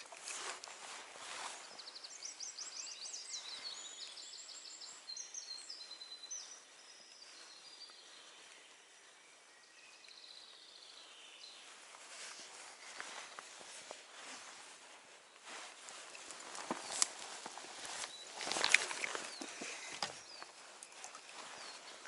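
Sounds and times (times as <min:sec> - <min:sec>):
soft steady hiss: 0:00.0 - 0:22.0
songbirds singing: 0:00.0 - 0:22.0.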